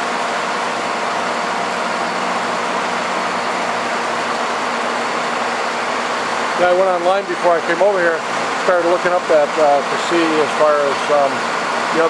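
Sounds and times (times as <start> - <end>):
boring mill humming: 0.0 - 12.0.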